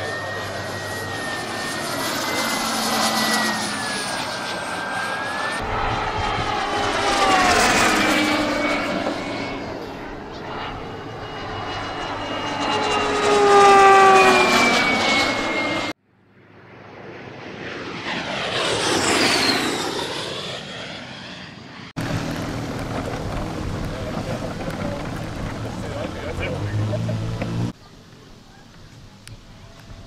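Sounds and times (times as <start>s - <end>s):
model turboprop planes whining by: 0.0s - 30.0s.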